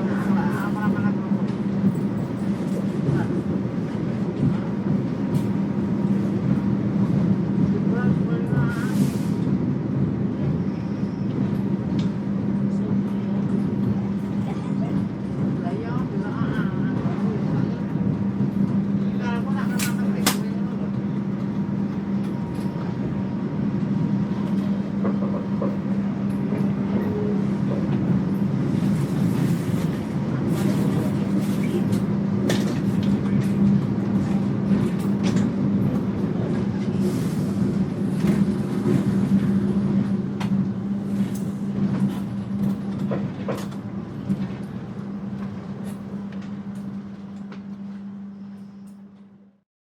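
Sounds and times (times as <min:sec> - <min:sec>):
train interior low hum: 0:00.0 - 0:49.6
train rolling rumble: 0:00.0 - 0:49.6.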